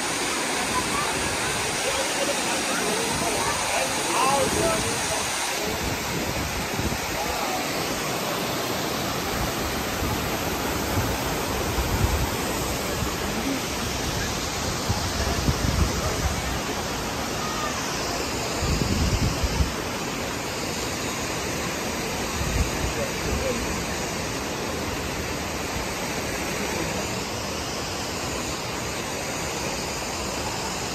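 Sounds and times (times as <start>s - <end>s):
waterfall and rapids rushing: 0.0s - 30.9s.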